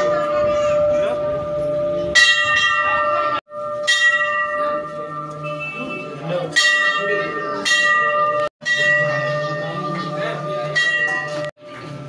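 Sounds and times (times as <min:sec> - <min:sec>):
temple bell ringing: 0:00.0 - 0:12.0.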